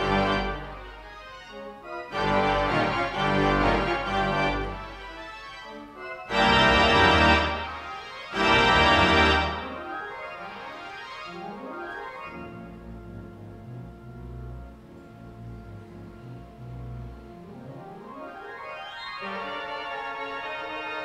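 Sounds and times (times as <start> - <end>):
pipe organ playing chords: 0.0 - 21.0.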